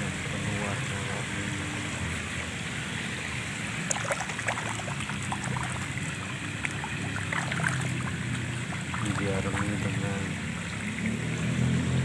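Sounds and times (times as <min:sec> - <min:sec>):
water trickling in a pond: 0:00.0 - 0:12.0
fish splashing and slurping: 0:00.1 - 0:12.0.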